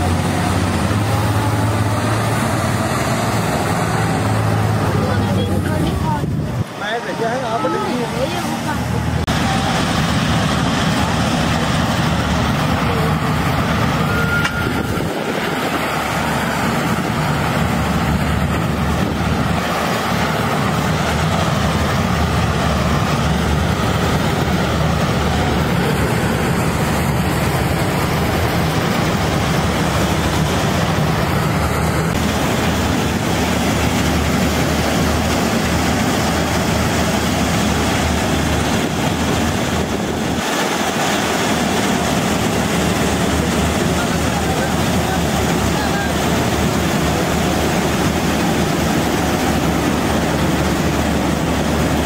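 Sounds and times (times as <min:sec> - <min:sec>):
combine harvester running: 0:00.0 - 0:52.0.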